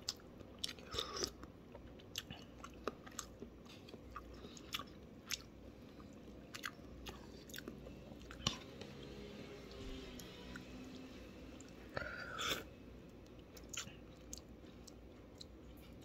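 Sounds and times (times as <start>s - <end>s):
person chewing with smacks: 0.0s - 9.1s, 11.6s - 16.0s.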